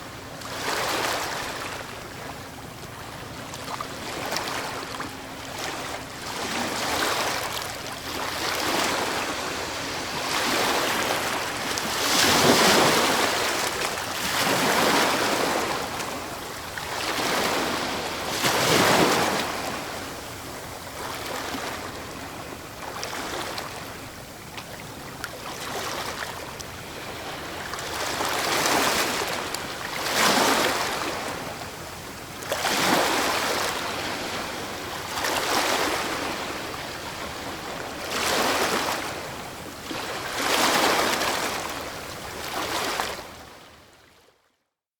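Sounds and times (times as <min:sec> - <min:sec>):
sea waves breaking on shore: 0:00.0 - 0:44.0.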